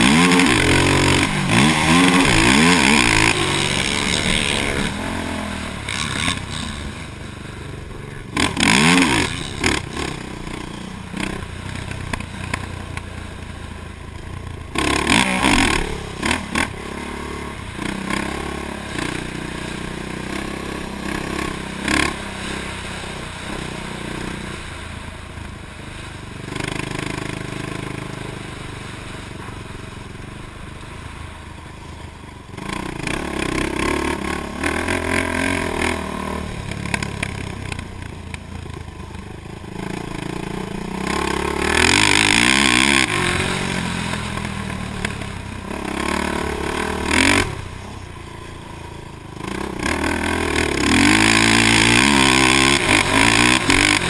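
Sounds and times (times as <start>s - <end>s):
quad engine revving: 0.0s - 25.1s, 25.9s - 30.9s, 32.5s - 54.0s.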